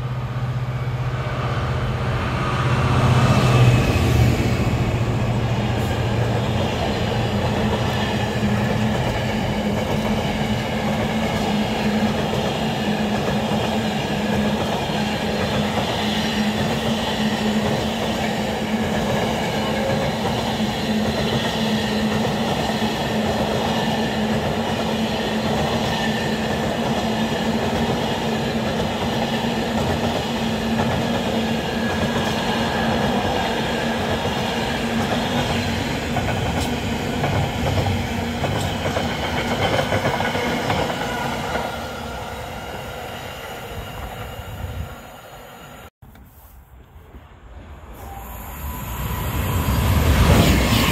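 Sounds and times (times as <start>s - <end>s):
train wheels rumbling on rails: 0.0s - 45.9s, 48.9s - 50.9s.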